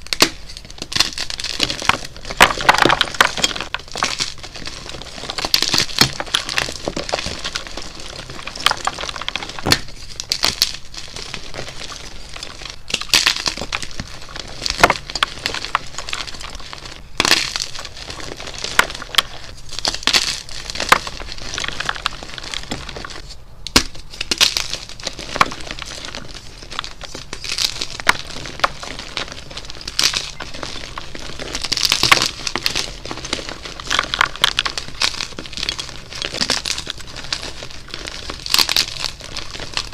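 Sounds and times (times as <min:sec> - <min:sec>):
chalk blocks crushed crunching: 0:00.0 - 0:39.9.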